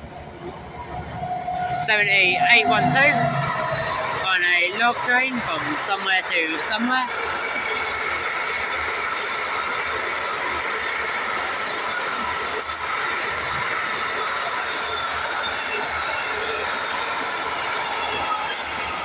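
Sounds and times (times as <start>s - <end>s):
rail noise: 0.0s - 19.0s
train wheels squealing: 0.0s - 19.0s.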